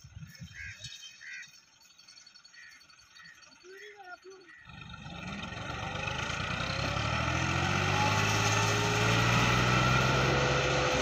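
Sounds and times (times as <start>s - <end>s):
tractor diesel engine working hard: 0.0s - 11.0s.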